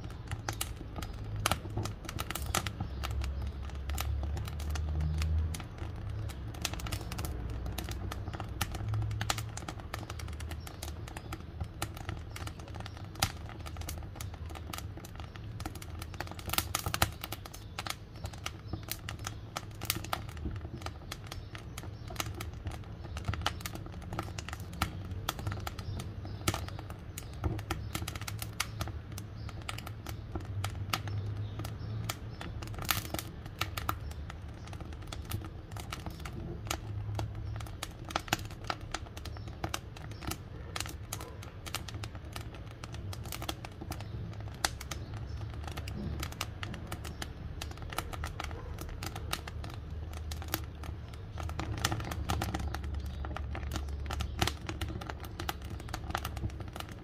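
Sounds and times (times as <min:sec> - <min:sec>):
sharp pops and snaps: 0:00.0 - 0:57.0
wood fire crackling: 0:00.0 - 0:57.0.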